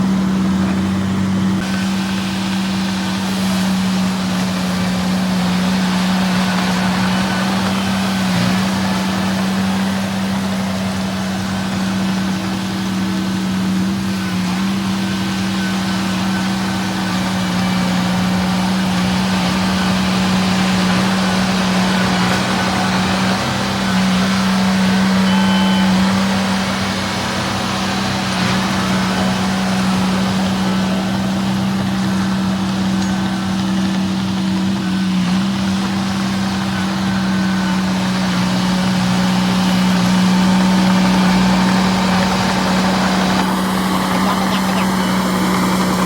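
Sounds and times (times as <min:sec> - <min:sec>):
bulldozer diesel engine running: 0:00.0 - 0:46.0.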